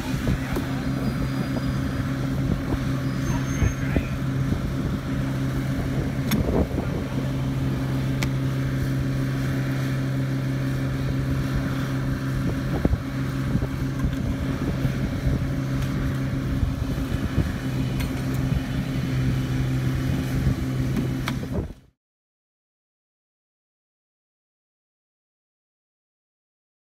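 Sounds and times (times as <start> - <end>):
truck engine idling: 0.0 - 21.7.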